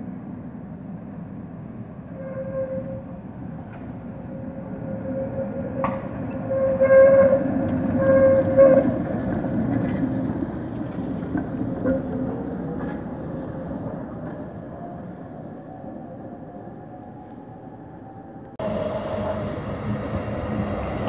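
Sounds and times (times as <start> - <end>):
tram vehicle rumbling on rails: 0.0 - 21.0.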